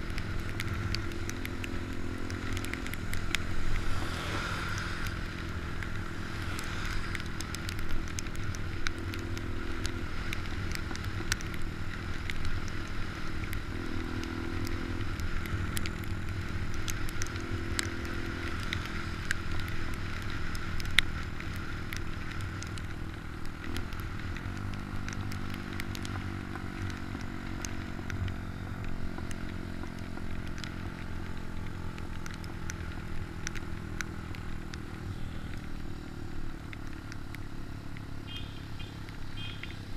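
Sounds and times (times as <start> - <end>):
crackles: 0.0 - 39.9
motorcycle engine running: 0.0 - 39.9.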